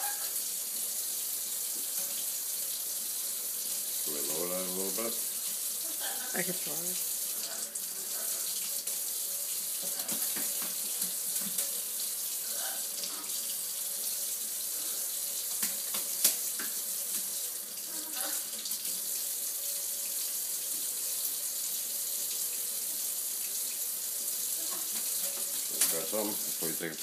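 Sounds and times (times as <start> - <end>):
faucet running into metal sink: 0.0 - 27.0.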